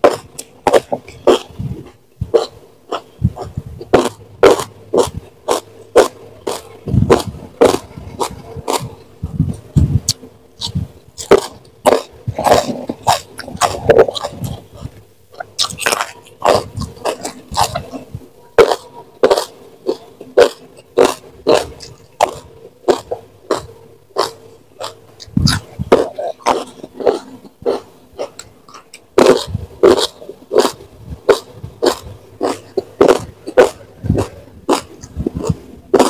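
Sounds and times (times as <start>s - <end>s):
chewing with crunches: 0.0s - 36.0s.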